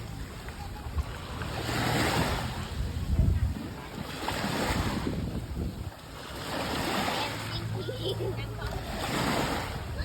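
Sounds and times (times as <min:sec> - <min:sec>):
sea waves washing ashore: 0:00.0 - 0:10.0
wind buffeting microphone: 0:00.0 - 0:10.0.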